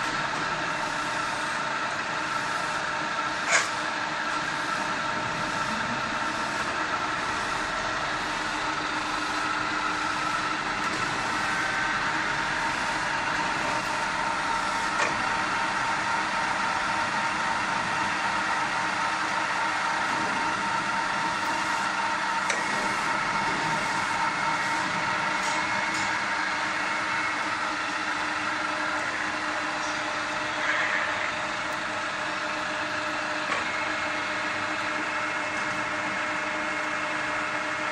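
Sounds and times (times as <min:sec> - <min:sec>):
milling machine humming: 0:00.0 - 0:37.9.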